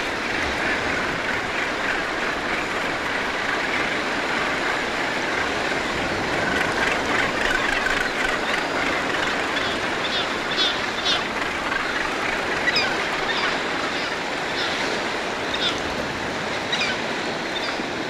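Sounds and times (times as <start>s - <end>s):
seabird colony calling: 0.0s - 18.0s.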